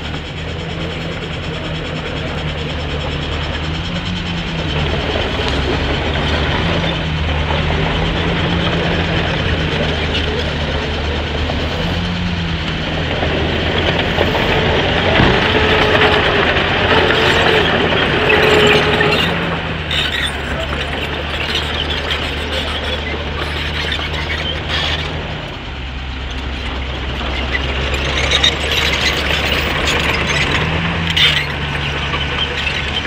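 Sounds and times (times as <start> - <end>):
bulldozer diesel engine droning: 0.0 - 33.0
high whine: 0.0 - 33.0
metallic clatter of steel tracks: 0.0 - 33.0.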